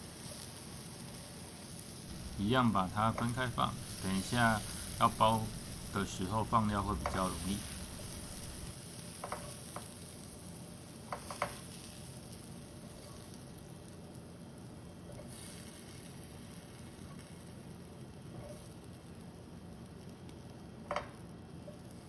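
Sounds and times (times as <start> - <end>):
food sizzling in frying pan: 0.0 - 20.4.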